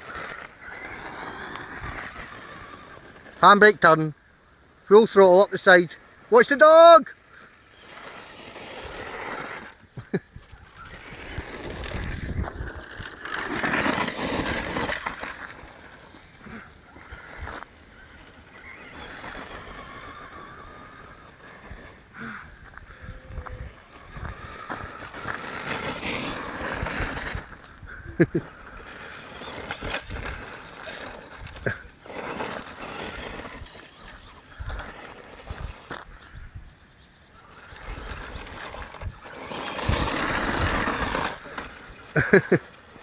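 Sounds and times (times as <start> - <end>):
toy truck motor and tyres on gravel: 0.0 - 43.0.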